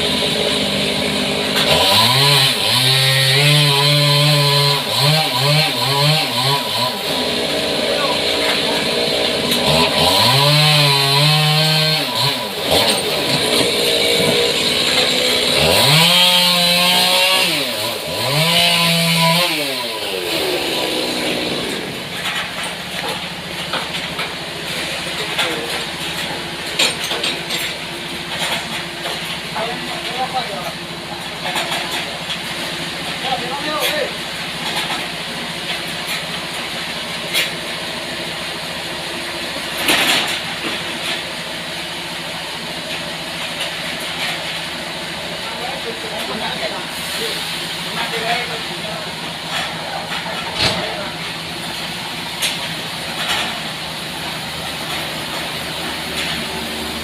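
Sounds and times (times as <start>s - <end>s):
chainsaw revving: 0.0s - 57.0s
sawmill engine idling: 0.0s - 57.0s.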